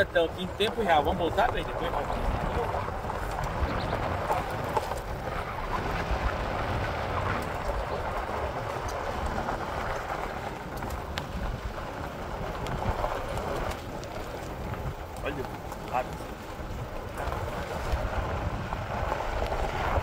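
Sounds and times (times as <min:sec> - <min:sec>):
tyres on gravel: 0:00.0 - 0:20.0
vehicle low rumble: 0:00.0 - 0:20.0
wind on microphone: 0:00.0 - 0:20.0.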